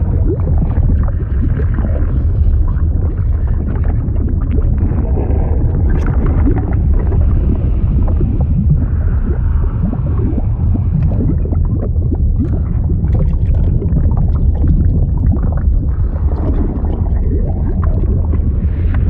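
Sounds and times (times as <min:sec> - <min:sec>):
liquid bubbling and gurgling: 0:00.0 - 0:19.0.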